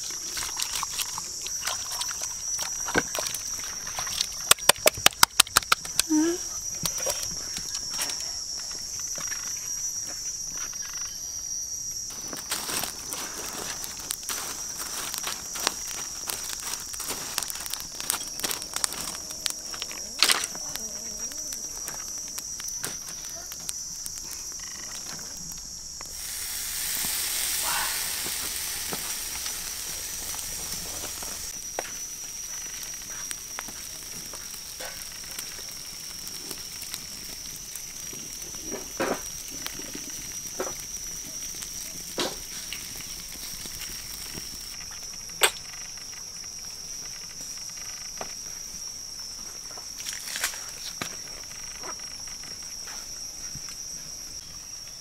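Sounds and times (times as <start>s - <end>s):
hiss of food sizzling: 0.0s - 10.9s, 11.5s - 55.0s
fire crackling and popping: 0.0s - 54.8s
insects droning: 0.0s - 55.0s.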